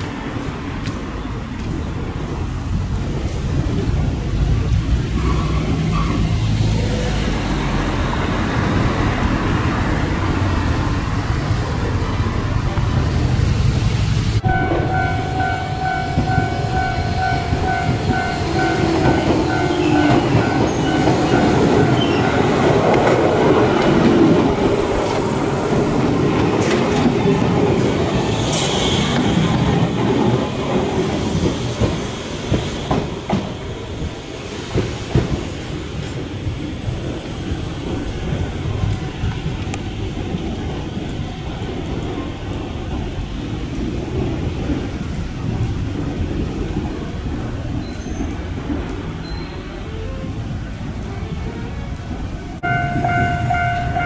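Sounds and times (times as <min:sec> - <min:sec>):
train running rumble: 0:00.0 - 0:54.0
wheels clacking over rail joints: 0:00.0 - 0:54.0.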